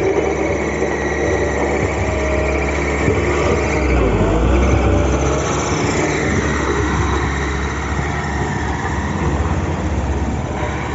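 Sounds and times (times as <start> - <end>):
heavy diesel engine running: 0.0 - 10.9.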